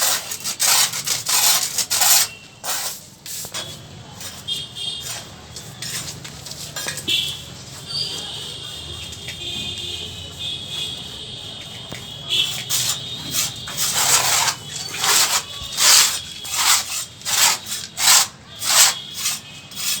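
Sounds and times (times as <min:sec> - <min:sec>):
hand tool scraping hard surface: 0:00.0 - 0:09.2, 0:12.4 - 0:20.0.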